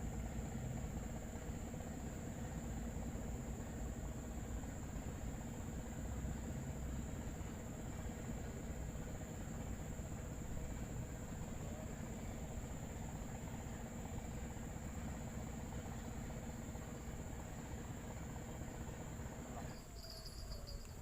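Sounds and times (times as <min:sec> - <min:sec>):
crickets droning: 0:00.0 - 0:21.0
low steady rumble: 0:00.0 - 0:21.0.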